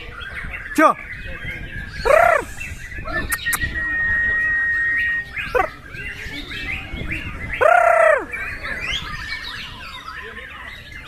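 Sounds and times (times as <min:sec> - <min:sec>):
bird singing varied song: 0:00.0 - 0:11.0.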